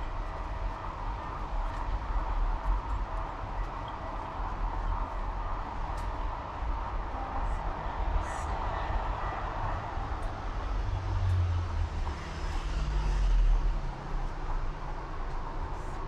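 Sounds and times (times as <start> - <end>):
road noise: 0.0 - 16.0
vehicles passing: 0.0 - 16.0.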